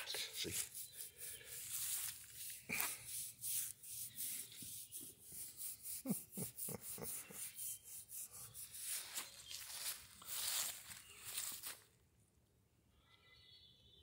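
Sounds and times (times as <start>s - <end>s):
hand rubbing dog's coat: 0.0s - 11.8s.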